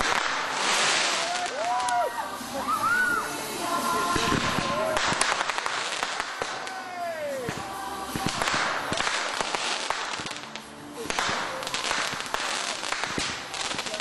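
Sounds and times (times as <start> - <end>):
fireworks crackling pops: 0.0 - 14.0.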